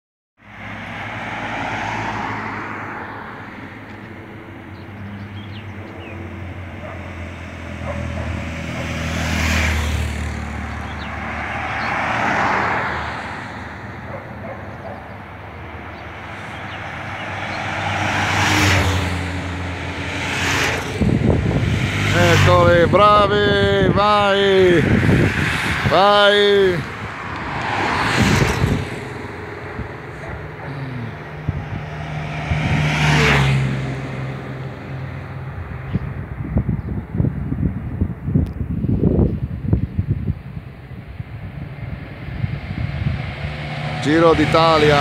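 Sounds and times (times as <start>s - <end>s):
cars driving past: 0.4s - 45.0s.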